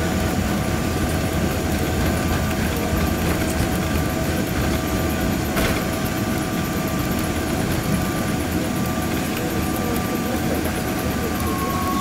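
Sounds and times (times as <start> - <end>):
engine whine: 0.0 - 12.0
wheels and engines rumbling: 0.0 - 12.0.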